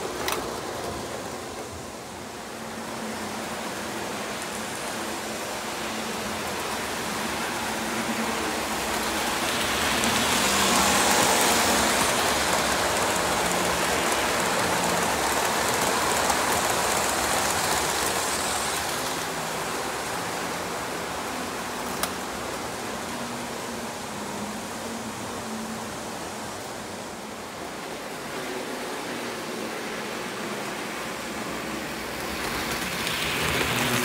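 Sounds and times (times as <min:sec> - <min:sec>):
model train wheels on rails: 0:00.0 - 0:34.0.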